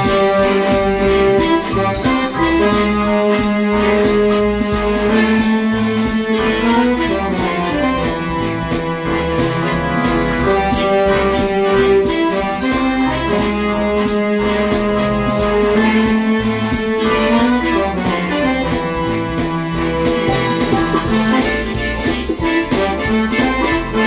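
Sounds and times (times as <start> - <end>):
electronic organ melody: 0.0 - 24.0
organ drum rhythm: 0.0 - 24.0
organ pedal bass line: 0.0 - 24.0.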